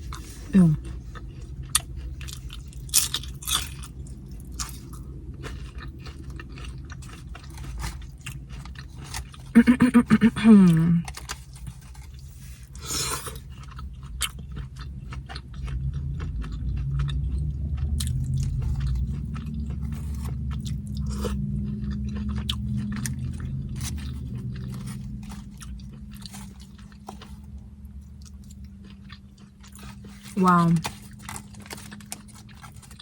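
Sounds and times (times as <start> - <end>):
chewing crunchy chips: 0.0 - 33.0
low rumble with faint tone: 0.0 - 33.0.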